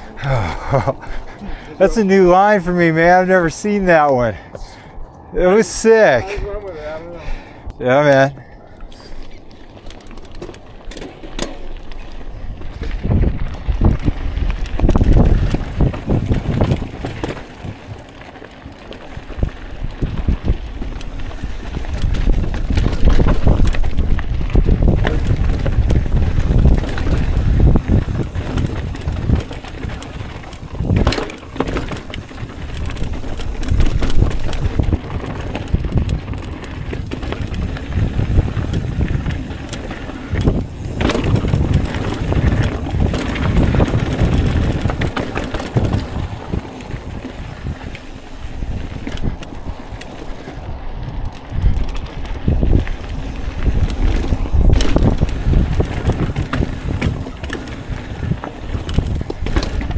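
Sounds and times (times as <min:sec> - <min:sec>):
bike rattling over rocks: 0:00.0 - 0:04.7, 0:07.8 - 0:59.9
wind rushing over microphone: 0:00.0 - 0:10.0, 0:11.7 - 0:59.9
bike tyres on rocky trail: 0:00.0 - 0:59.9.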